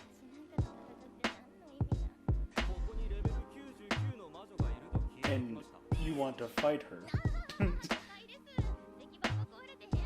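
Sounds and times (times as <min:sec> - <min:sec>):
background music with drums and bass: 0:01.8 - 0:10.0.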